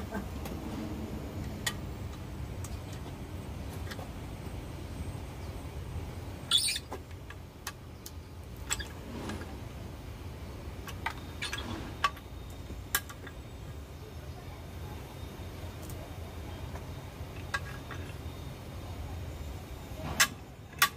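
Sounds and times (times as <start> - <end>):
low steady rumble: 0.0 - 20.9.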